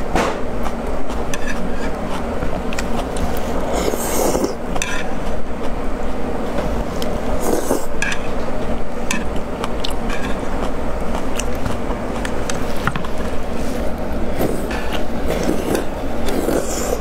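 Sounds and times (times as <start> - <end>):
chewing and slurping noodles: 0.6 - 5.8, 6.8 - 8.2, 9.3 - 17.0.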